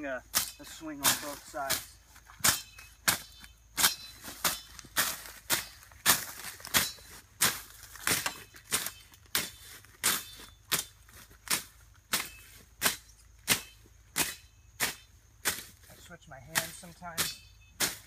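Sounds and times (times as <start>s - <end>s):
machete slashing through grass: 0.3s - 15.9s, 16.5s - 18.0s.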